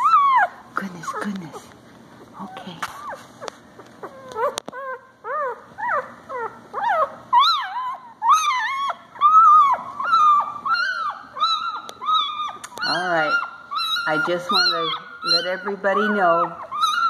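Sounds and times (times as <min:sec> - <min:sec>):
newborn puppies crying and squealing: 0:00.0 - 0:17.0.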